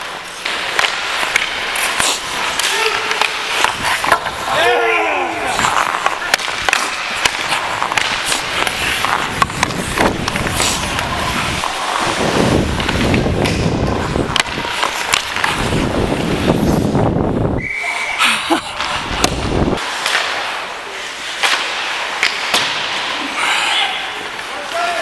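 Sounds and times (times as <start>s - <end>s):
hockey sticks and puck clicks: 0.0s - 16.8s, 18.7s - 23.3s, 24.2s - 25.0s
ice skates scraping: 0.0s - 25.0s.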